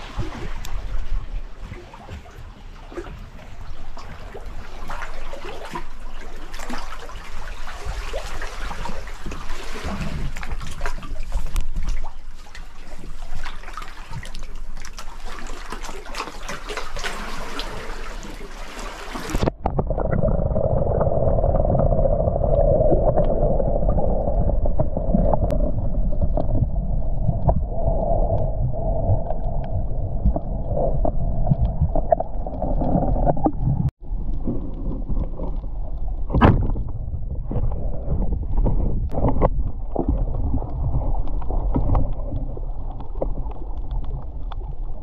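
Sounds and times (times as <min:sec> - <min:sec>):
underwater rumble: 0:00.0 - 0:45.0
water splashing and trickling: 0:00.0 - 0:45.0.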